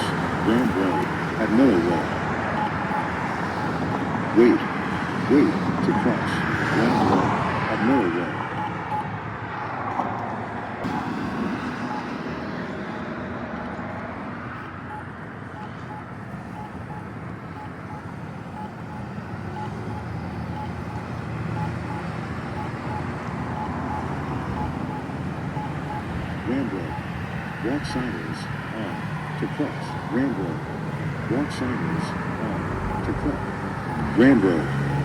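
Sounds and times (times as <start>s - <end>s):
pedestrian signal locator pips: 0.0s - 9.1s, 10.8s - 35.0s
road traffic: 0.0s - 35.0s.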